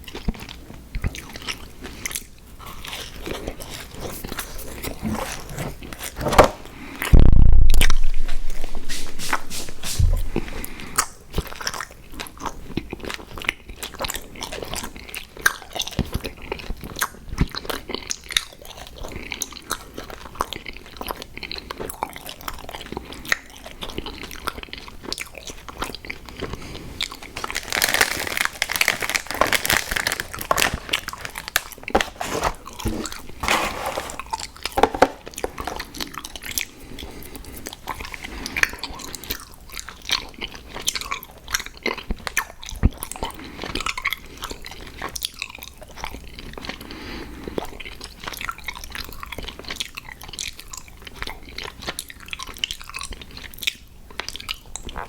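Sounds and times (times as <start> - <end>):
crunching and chewing cereal: 0.0 - 7.2, 10.4 - 55.0.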